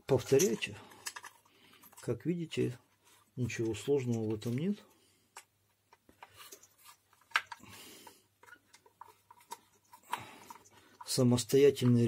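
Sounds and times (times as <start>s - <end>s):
handling noise on plastic housing: 0.0s - 12.0s.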